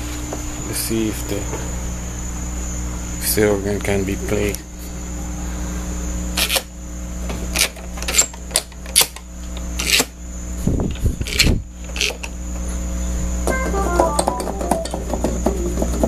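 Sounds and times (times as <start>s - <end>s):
amplifier mains hum: 0.0s - 16.0s.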